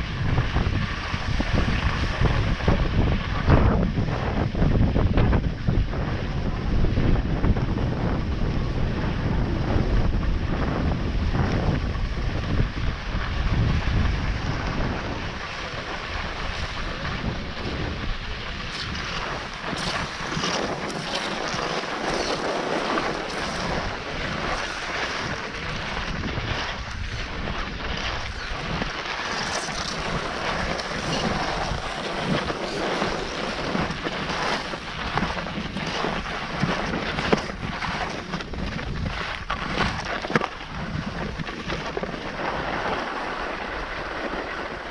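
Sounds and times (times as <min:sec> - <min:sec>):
skis scraping on hard snow: 0:00.0 - 0:44.9
wind buffeting microphone: 0:00.0 - 0:44.9.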